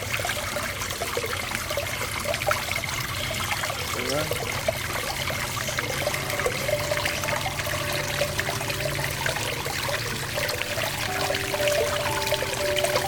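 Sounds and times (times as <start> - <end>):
fountain water trickling: 0.0 - 13.0.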